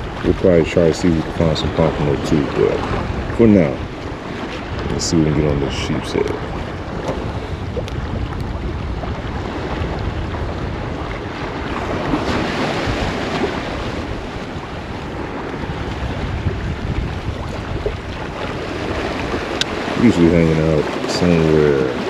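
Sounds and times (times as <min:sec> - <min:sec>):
sea wash: 0:00.0 - 0:22.0
wind buffeting microphone: 0:00.0 - 0:22.0.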